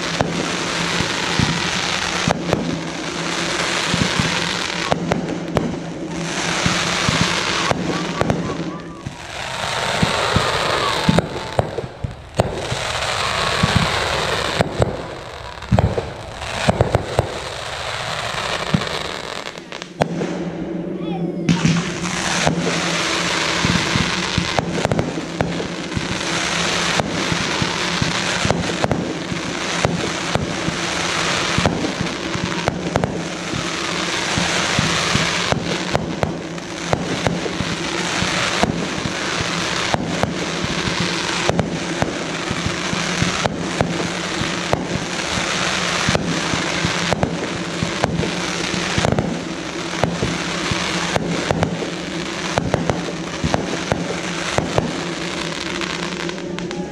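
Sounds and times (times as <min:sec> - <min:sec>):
sharp firework pops: 0:00.0 - 0:20.6, 0:21.5 - 0:56.9
fireworks hiss and crackle: 0:00.0 - 0:56.9.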